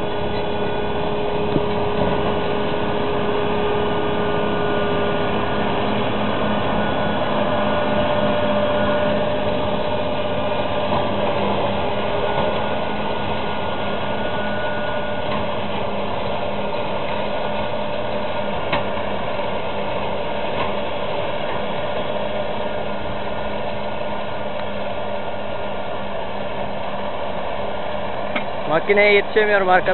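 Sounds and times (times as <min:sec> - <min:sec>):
tractor diesel engine drone: 0:00.0 - 0:29.9.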